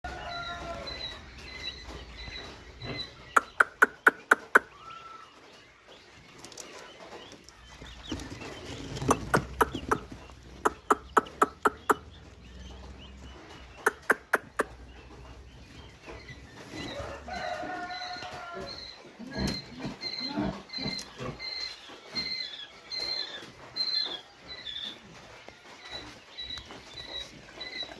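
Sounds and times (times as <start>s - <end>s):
turkey poults peeping: 0.0s - 27.9s.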